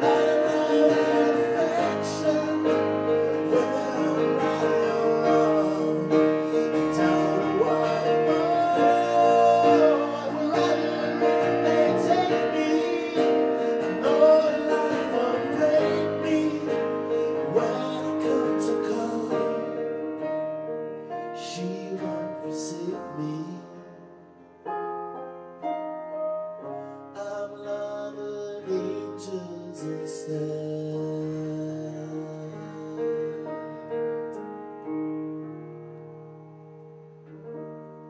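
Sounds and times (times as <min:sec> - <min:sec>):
piano playing slow chords: 0:00.0 - 0:38.0.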